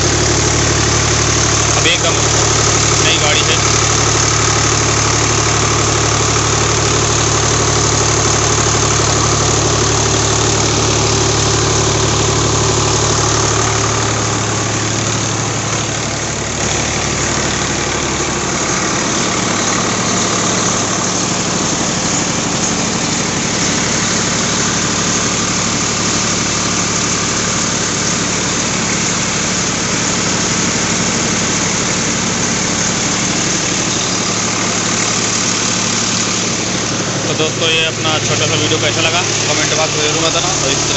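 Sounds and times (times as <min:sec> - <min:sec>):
tractor diesel engine rumble: 0:00.0 - 0:40.9.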